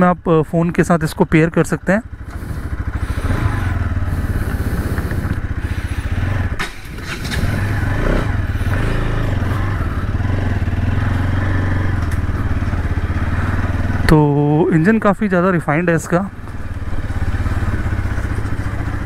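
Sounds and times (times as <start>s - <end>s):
motorcycle engine pulling away: 2.0s - 19.0s.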